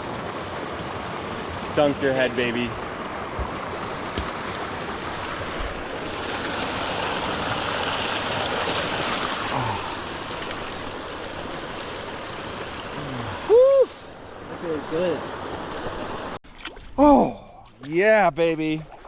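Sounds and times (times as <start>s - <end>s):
stream water rushing: 0.0s - 16.4s.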